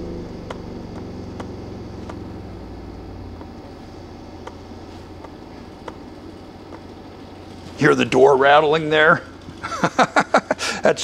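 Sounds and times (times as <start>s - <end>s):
subwoofer deep hum sweep: 0.0s - 11.0s.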